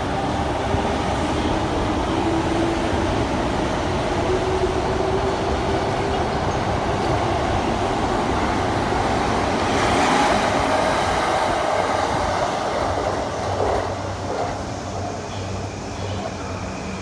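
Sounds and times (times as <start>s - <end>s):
train departing: 0.0s - 17.0s
train on adjacent tracks: 0.0s - 17.0s.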